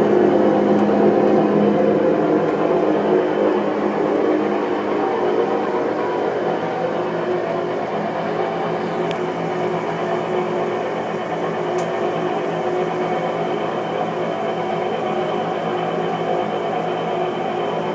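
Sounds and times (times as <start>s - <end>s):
washing machine spinning: 0.0s - 17.9s.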